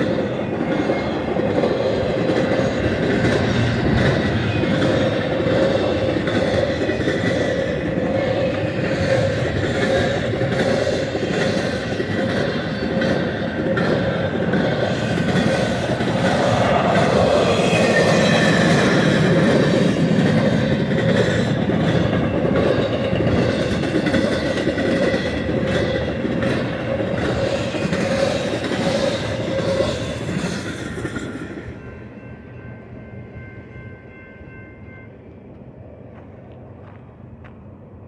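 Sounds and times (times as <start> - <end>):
train wheels clattering over rails: 0.0 - 31.7.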